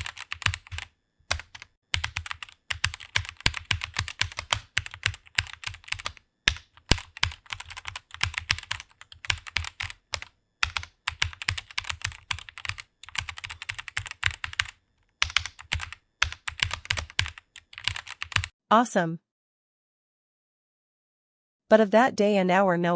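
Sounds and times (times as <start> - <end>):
computer keyboard typing: 0.0 - 18.5.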